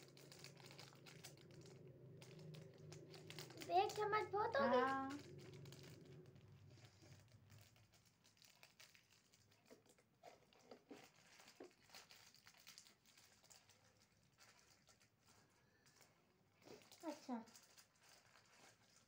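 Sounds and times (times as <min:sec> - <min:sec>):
faint crinkling: 0:00.0 - 0:19.0.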